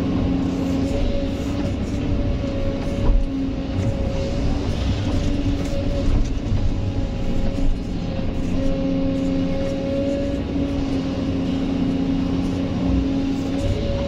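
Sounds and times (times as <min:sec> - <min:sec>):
excavator diesel engine rumble: 0:00.0 - 0:14.0
hydraulic pump whine: 0:00.0 - 0:14.0.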